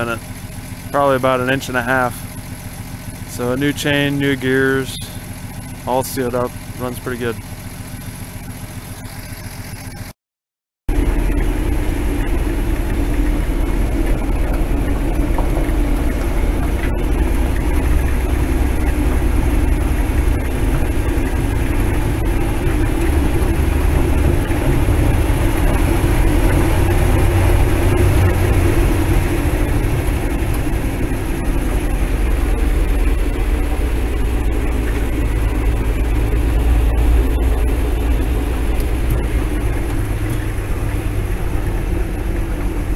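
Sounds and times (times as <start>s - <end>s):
truck engine rumbling: 0.0s - 10.1s, 10.9s - 42.9s.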